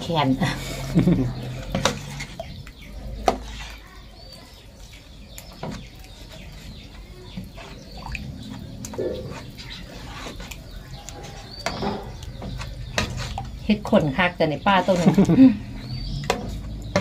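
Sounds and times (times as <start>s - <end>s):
birds chirping: 0.0s - 17.0s
metal spoon stirring liquid: 0.0s - 17.0s.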